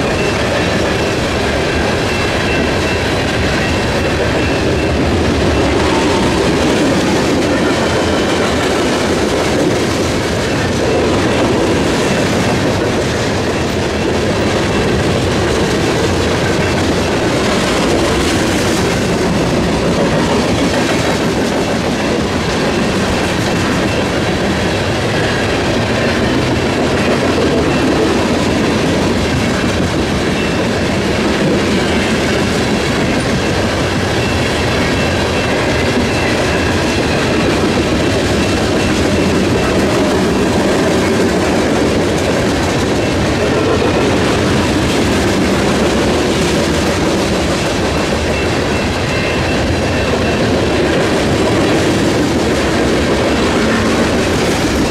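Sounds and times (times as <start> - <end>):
train wheels clattering over rails: 0.0 - 54.9.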